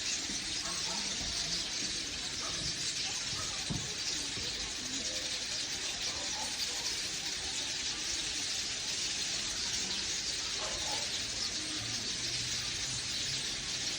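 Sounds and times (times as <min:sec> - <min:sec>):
birds chirping chorus: 0:00.0 - 0:13.9.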